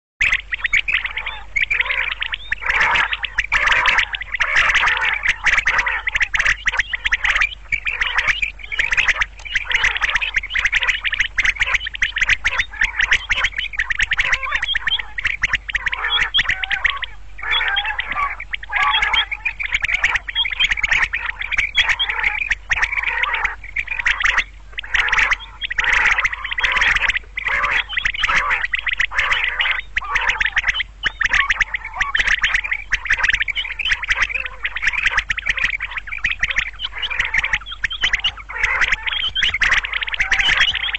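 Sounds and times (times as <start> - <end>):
quail chirping: 0.2 - 40.9.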